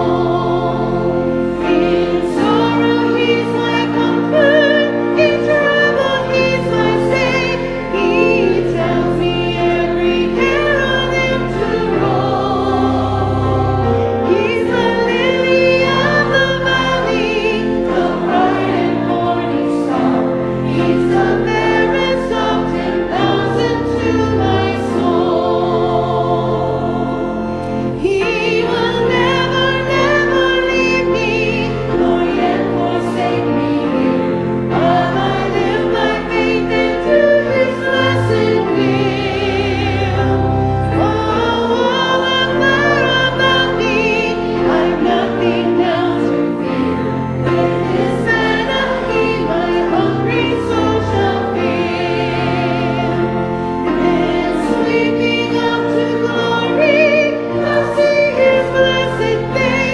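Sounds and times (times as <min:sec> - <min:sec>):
choir singing a gospel hymn: 0:00.0 - 0:59.9
sustained instrumental accompaniment: 0:00.0 - 0:59.9.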